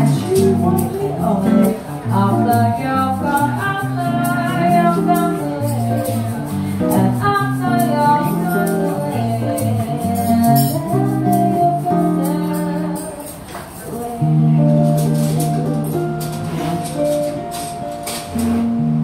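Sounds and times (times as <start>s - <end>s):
woman singing: 0.0s - 15.8s
shaker rattling: 0.0s - 18.6s
acoustic guitar chords: 0.0s - 19.0s.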